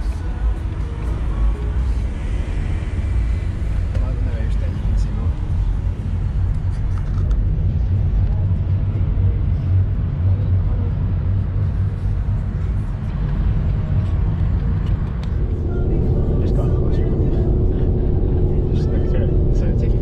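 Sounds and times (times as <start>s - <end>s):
car driving with engine rumble: 0.0s - 20.0s.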